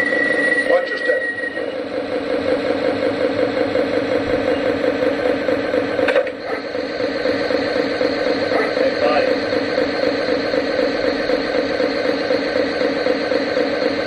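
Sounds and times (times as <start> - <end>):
model train engine sound: 0.0 - 14.0.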